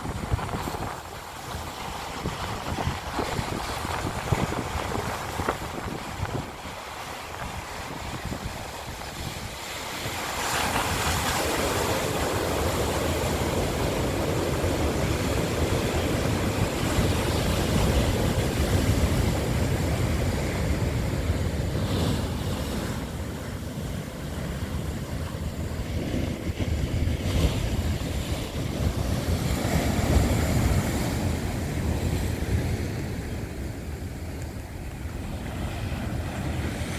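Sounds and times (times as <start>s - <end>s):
waves crashing on rocks: 0.0s - 36.9s
wind buffeting microphone: 0.0s - 36.9s.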